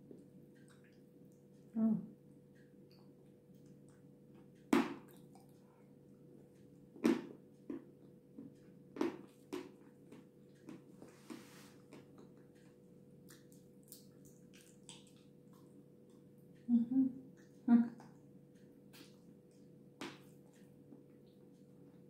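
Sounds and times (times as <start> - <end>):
chewing soft food: 0.0 - 22.0.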